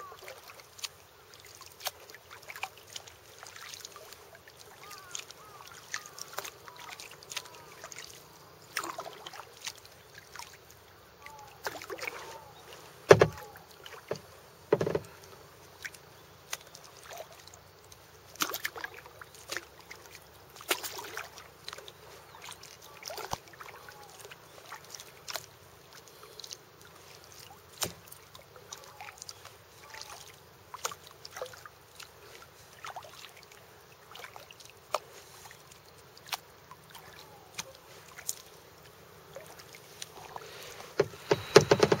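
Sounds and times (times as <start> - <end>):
paddle splashing water: 0.0 - 42.0.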